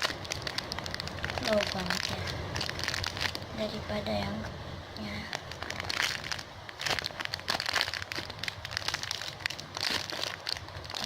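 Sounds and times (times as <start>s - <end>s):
plastic bag crinkling: 0.0s - 4.1s, 5.0s - 11.0s.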